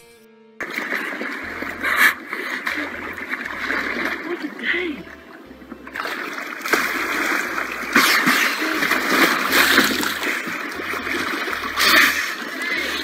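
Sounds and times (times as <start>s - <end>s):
water splashing and sloshing: 0.6s - 13.0s.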